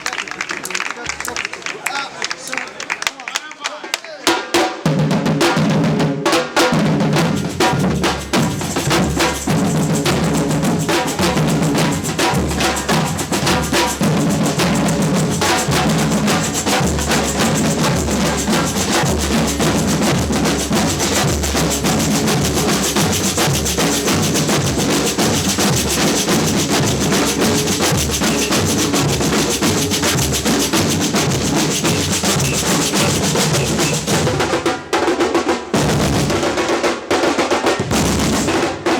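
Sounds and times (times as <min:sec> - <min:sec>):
samba percussion band: 0:04.2 - 0:38.9.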